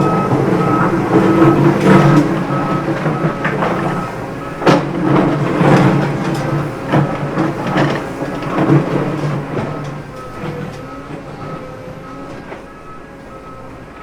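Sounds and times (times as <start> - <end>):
reversing beeper beeping: 0.0 - 14.0.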